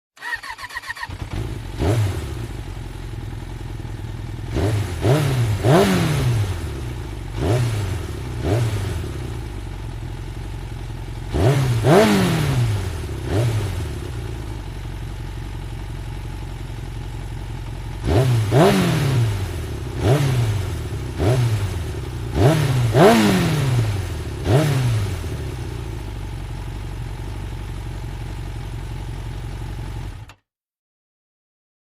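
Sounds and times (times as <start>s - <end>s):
motorcycle engine revving: 0.2s - 30.4s.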